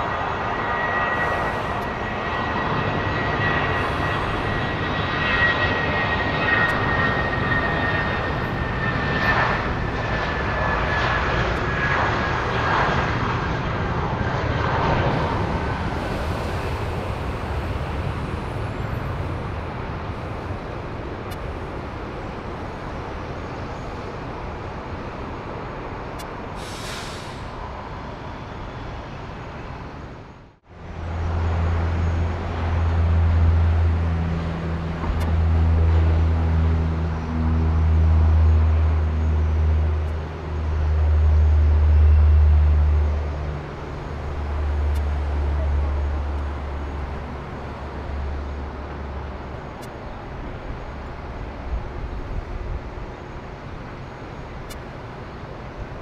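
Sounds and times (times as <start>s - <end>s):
jet engines whining and roaring: 0.0s - 56.0s.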